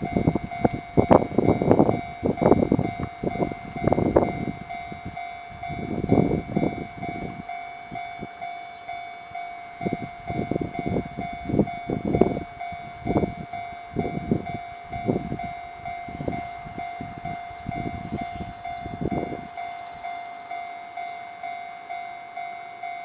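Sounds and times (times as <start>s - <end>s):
level crossing alarm ringing: 0.0s - 23.0s.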